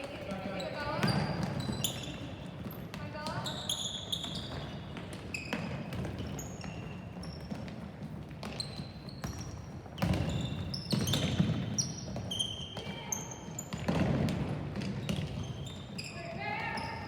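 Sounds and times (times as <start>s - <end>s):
sneakers squeaking on gym floor: 0.0s - 17.0s.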